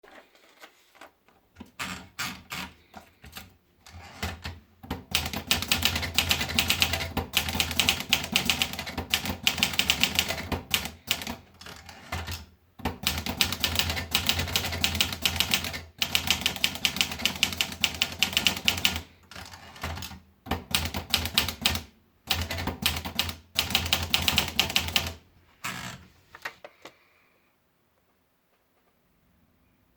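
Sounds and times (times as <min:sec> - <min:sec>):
manual typewriter typing: 0:01.6 - 0:25.9.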